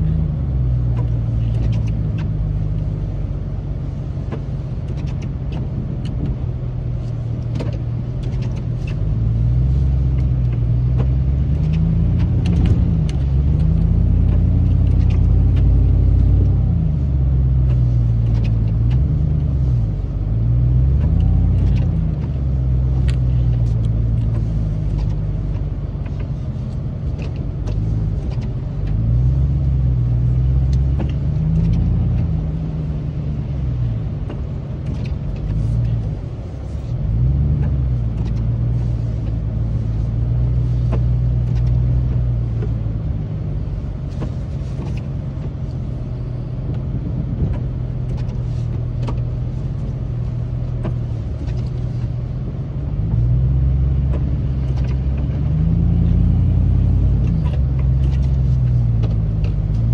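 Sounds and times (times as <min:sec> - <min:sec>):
truck engine from inside cab: 0:00.0 - 0:59.9
light ticks: 0:00.9 - 0:03.4, 0:10.0 - 0:16.6, 0:17.5 - 0:45.9, 0:46.6 - 0:59.9.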